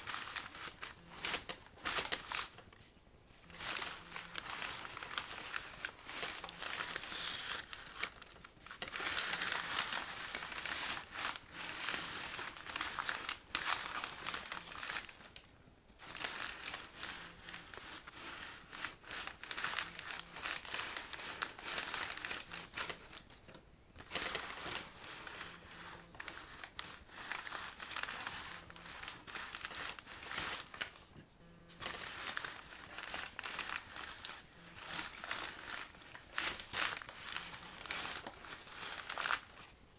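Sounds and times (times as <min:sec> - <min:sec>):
paper bags rustling and crinkling: 0:00.0 - 0:39.9.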